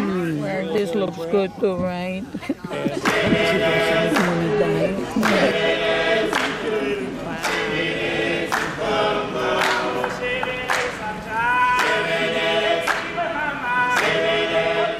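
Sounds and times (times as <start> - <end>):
group singing in harmony: 2.6 - 14.9.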